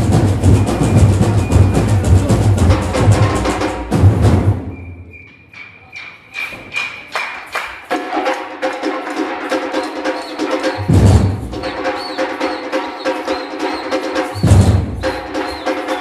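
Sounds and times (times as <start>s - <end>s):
samba percussion drumming: 0.0s - 16.0s
small percussion strikes: 0.0s - 16.0s.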